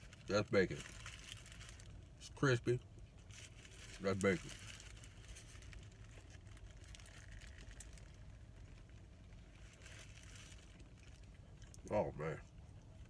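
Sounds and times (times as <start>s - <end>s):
low steady car hum: 0.0s - 13.0s.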